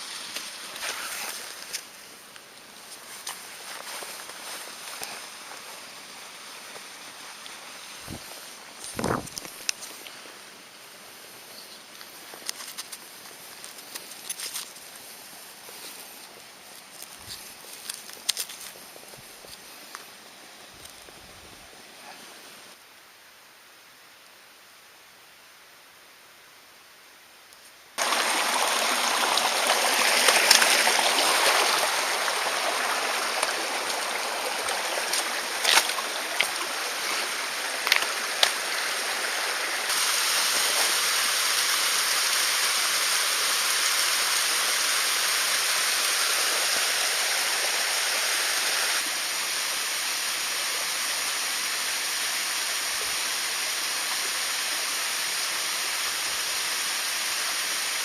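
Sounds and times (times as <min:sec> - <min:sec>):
stream running water: 0:00.0 - 0:22.8, 0:28.0 - 0:58.0.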